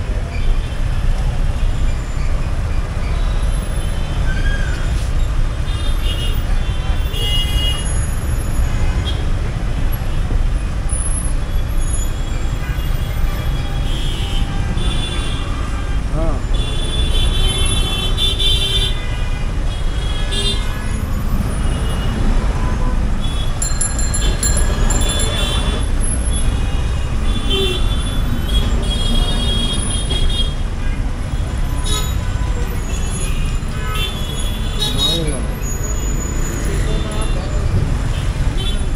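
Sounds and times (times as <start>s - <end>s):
street traffic rumble: 0.0s - 38.9s.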